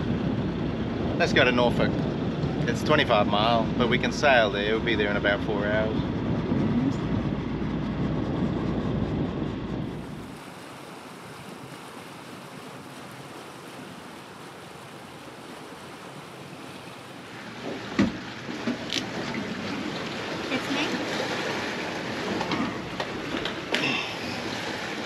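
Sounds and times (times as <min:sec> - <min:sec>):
water washing against boat: 0:00.0 - 0:25.0
wind buffeting microphone: 0:00.0 - 0:25.0.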